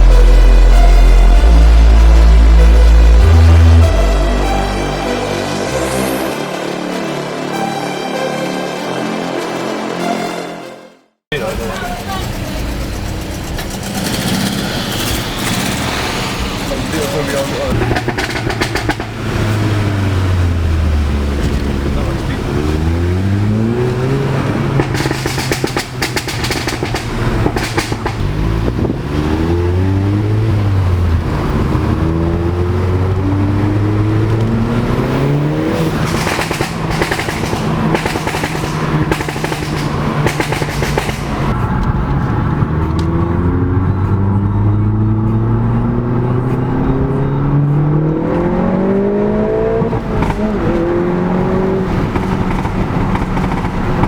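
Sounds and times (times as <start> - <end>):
car engine accelerating: 0.0 - 10.1, 11.3 - 54.0.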